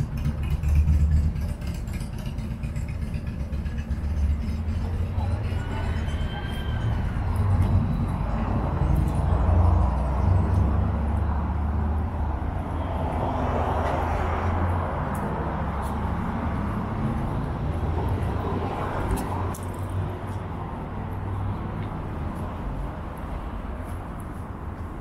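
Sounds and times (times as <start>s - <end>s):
rumble of passing vehicles: 0.0s - 25.0s.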